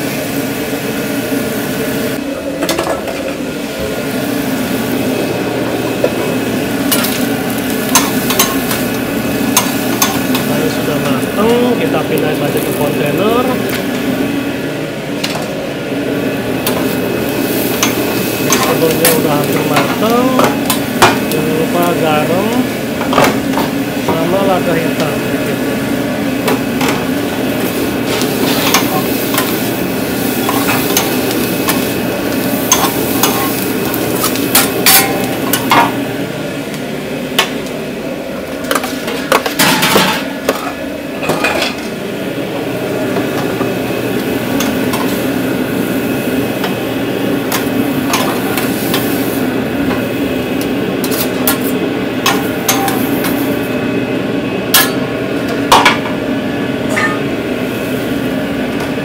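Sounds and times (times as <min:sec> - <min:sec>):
food sizzling: 0:00.0 - 0:02.3, 0:03.0 - 0:59.0
steady machine hum: 0:00.0 - 0:59.0.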